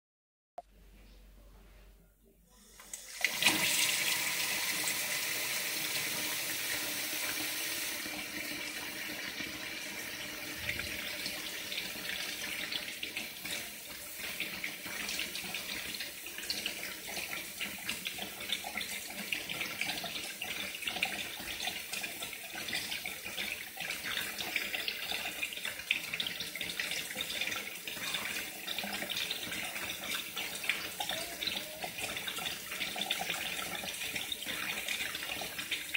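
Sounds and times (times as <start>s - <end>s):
water pouring into a pot: 3.0s - 35.9s.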